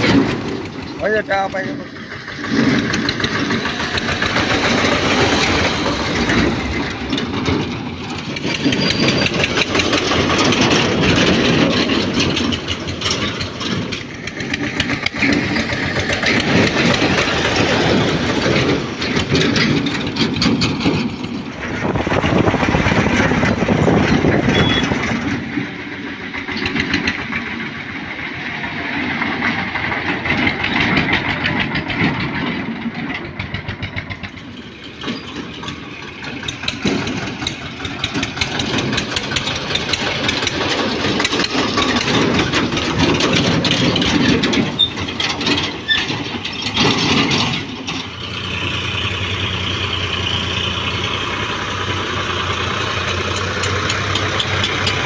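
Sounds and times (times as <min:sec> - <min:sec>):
clattering rattle: 0:00.0 - 0:55.0
tractor diesel engine running: 0:00.0 - 0:55.0.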